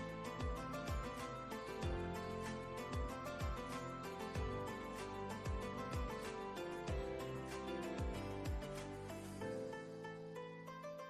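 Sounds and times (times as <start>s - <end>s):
held melodic notes: 0.0s - 11.0s.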